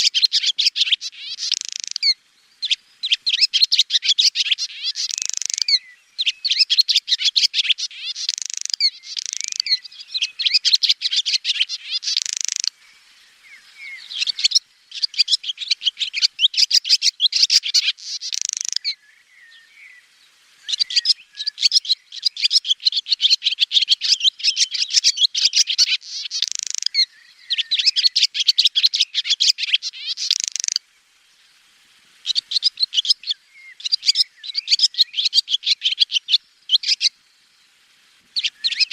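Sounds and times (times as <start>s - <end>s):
swallow twittering: 0.0s - 30.8s, 32.2s - 37.6s, 38.3s - 38.9s.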